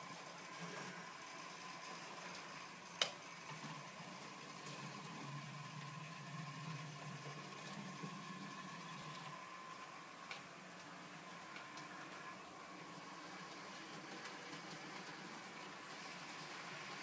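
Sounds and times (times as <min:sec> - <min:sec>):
model train faint hum: 0:00.0 - 0:17.0.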